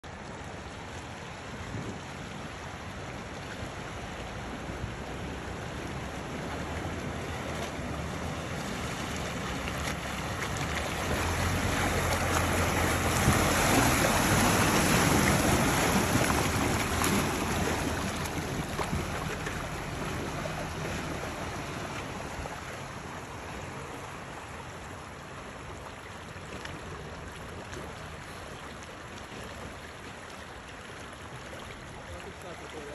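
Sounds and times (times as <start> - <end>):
stream flowing: 0.0 - 32.9
water splashing around wheels: 0.0 - 32.9
low engine hum: 0.1 - 32.9.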